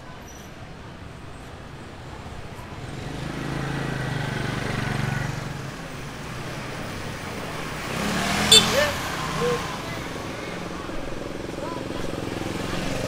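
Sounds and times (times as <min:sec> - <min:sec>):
street background noise: 0:00.0 - 0:13.0.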